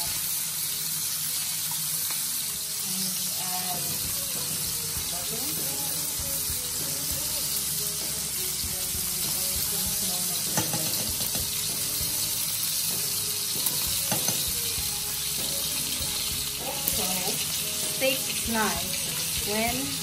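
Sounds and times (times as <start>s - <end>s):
steaks sizzling in a frying pan: 0.0s - 20.0s.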